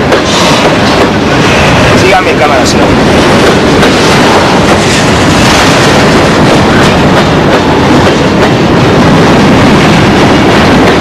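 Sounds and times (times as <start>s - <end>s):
train rumbling and rattling: 0.0s - 11.0s
wheels clattering on rails: 0.0s - 11.0s.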